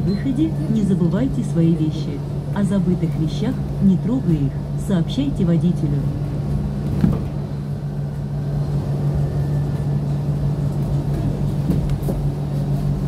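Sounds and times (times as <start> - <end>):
bus cabin rumble: 0.0 - 13.0
constant low hum: 0.0 - 13.0.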